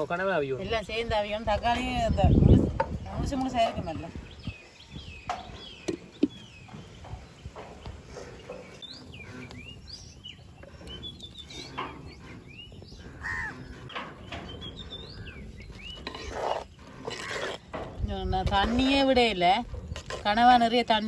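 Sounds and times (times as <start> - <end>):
birds chirping: 0.0 - 21.0
wooden spoon stirring in clay pot: 0.8 - 21.0.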